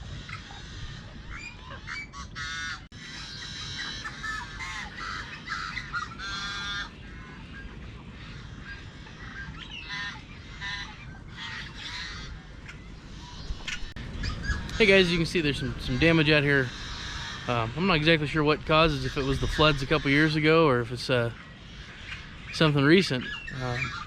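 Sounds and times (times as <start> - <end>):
marsh birds calling: 0.0 - 24.0.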